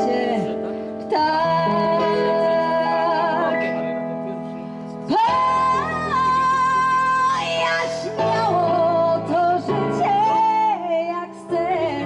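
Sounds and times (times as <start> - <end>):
woman singing into microphone: 0.0 - 3.8, 5.0 - 12.0
instrumental accompaniment with guitar: 0.0 - 12.0.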